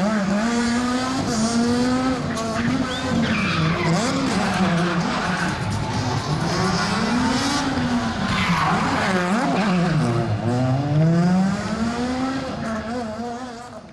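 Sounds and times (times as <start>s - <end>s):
rally car engine revving: 0.0s - 13.9s.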